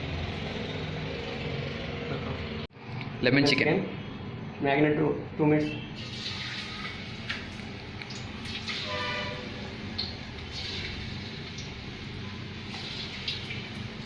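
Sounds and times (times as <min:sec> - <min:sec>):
rumbling kitchen background noise: 0:00.0 - 0:14.0.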